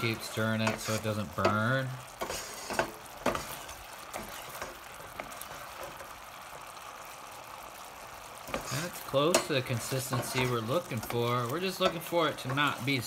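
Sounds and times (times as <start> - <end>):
sauce simmering and bubbling: 0.0 - 13.0.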